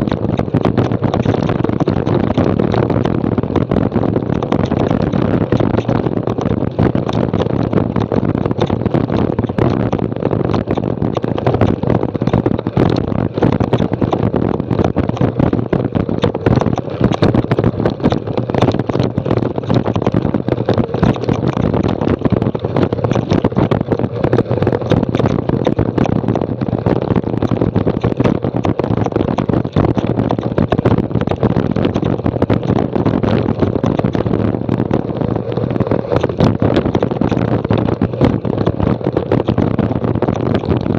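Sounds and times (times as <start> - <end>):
small knocks and clatters: 0.0 - 35.1, 35.7 - 40.9
mountain bike rattling on rocks: 0.0 - 40.9
wind rush on microphone: 0.0 - 40.9.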